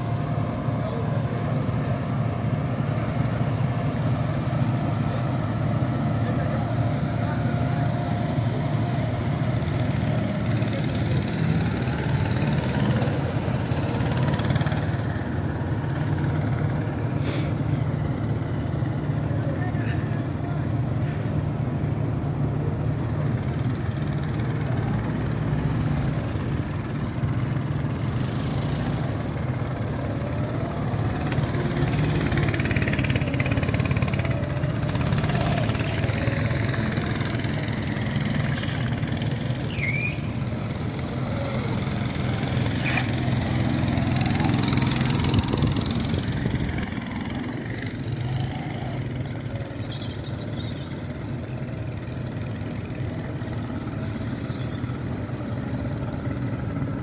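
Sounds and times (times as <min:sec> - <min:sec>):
go-kart engine: 0:00.0 - 0:57.0.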